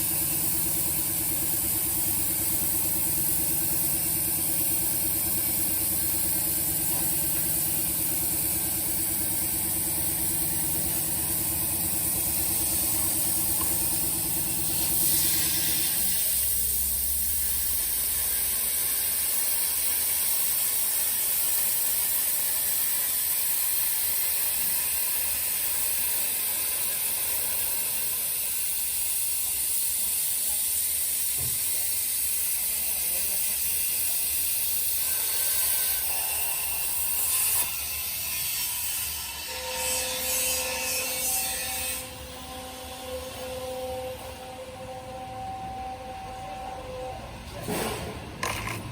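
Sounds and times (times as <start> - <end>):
plasma cutter hissing: 0.0 - 44.6.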